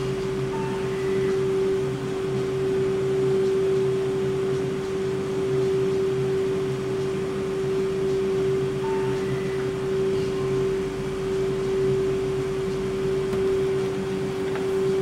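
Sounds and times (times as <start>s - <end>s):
ice cream machine humming: 0.0s - 15.0s.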